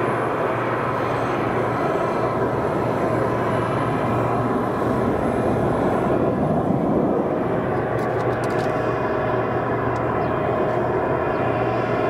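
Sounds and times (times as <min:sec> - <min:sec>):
faint engine whine: 0:00.0 - 0:12.0
jet engines running: 0:00.0 - 0:12.0.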